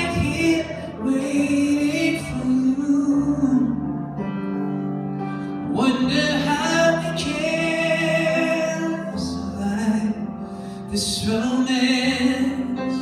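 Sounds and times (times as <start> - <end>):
man singing ballad: 0.0 - 4.3, 5.4 - 13.0.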